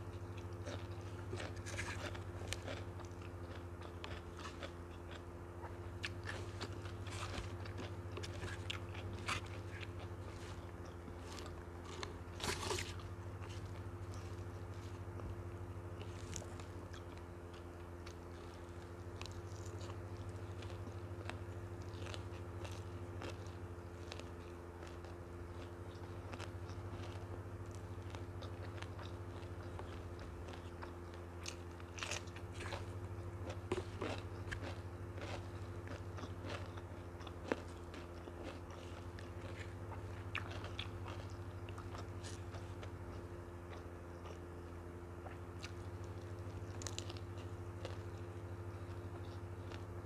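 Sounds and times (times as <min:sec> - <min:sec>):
steady low hum: 0:00.0 - 0:50.0
chewing and mouth clicks: 0:00.1 - 0:15.4, 0:16.0 - 0:49.9.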